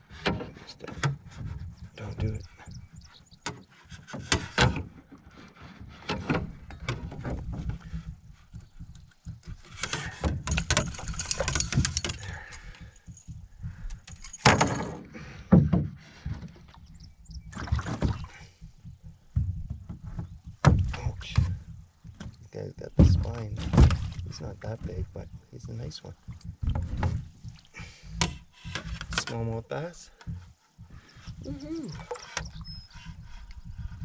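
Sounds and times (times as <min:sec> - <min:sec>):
knocks and rattles in a canoe: 0:00.0 - 0:34.0.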